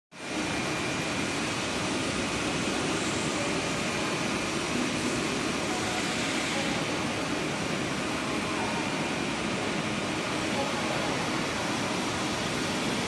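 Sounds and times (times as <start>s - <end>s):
train ventilation whir: 0.2s - 13.0s.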